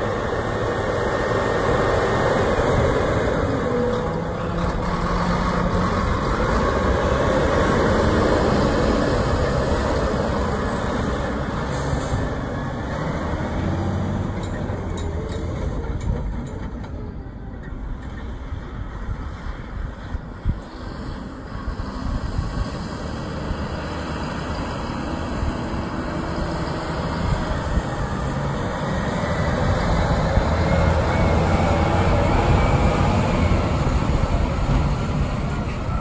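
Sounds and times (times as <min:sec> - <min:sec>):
dump truck diesel engine: 0:00.0 - 0:36.0.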